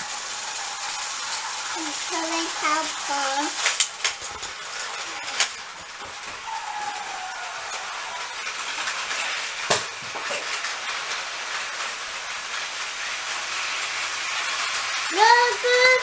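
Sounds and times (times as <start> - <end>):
toy train motors whirring: 0.0 - 16.0
wheels clicking over track joints: 0.0 - 16.0.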